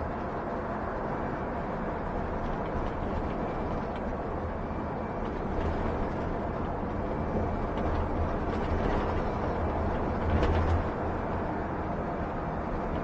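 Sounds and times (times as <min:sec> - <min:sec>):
road noise inside a vehicle: 0:00.0 - 0:13.0.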